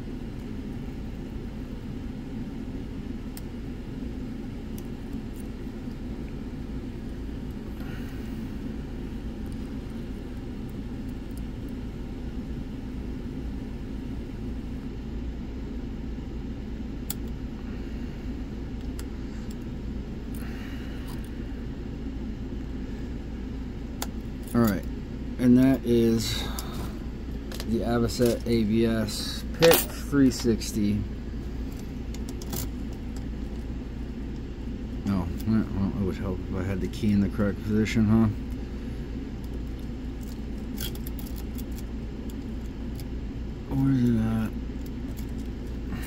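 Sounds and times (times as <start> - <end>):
low background rumble: 0.0 - 46.0.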